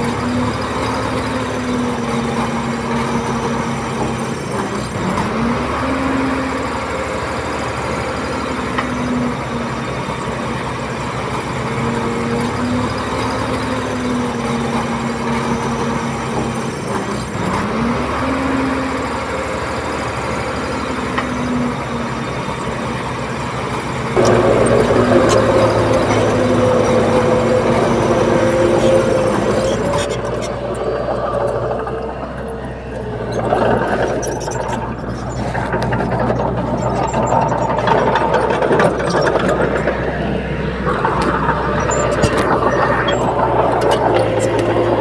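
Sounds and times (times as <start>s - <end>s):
heavy machinery diesel engine revving: 0.0s - 45.0s.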